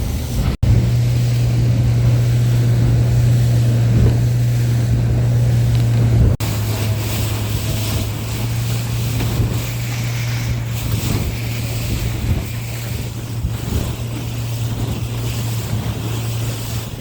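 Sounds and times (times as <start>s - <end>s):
outboard motor running: 0.0s - 17.0s
water noise: 0.0s - 17.0s
wind on microphone: 0.0s - 17.0s.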